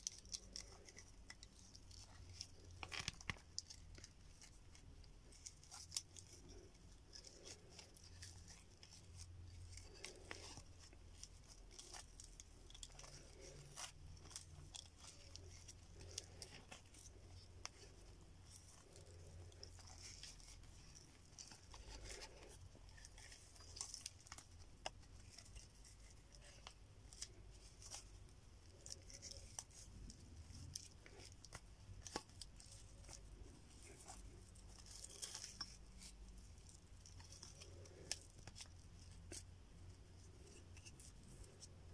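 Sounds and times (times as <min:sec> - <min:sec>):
cord rustling and scratching: 0:00.0 - 0:41.9.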